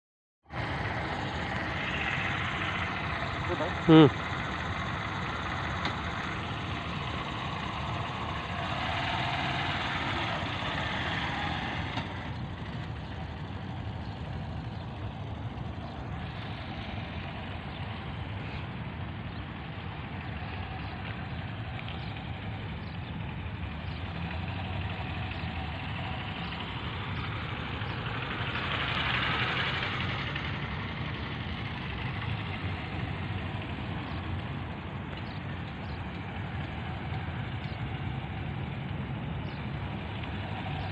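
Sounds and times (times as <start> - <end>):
motorcycle engine running: 0.5 - 40.9.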